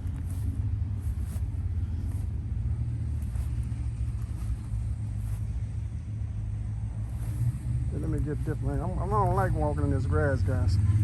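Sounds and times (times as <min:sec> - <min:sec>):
footsteps through grass: 0:00.0 - 0:09.5
low rumble: 0:00.0 - 0:11.0.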